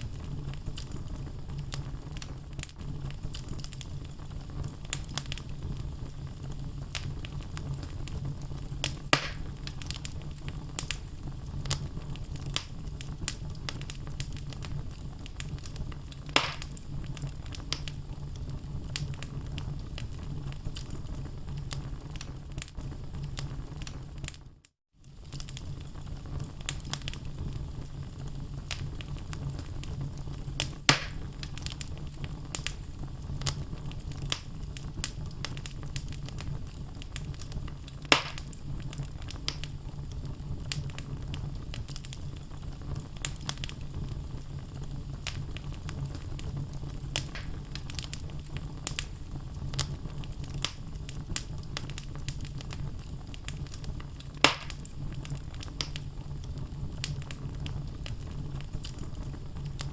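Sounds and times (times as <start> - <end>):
logs crackling in fireplace: 0.0 - 59.9
loud fire pops: 0.0 - 59.9
low flame rumble: 0.0 - 59.9.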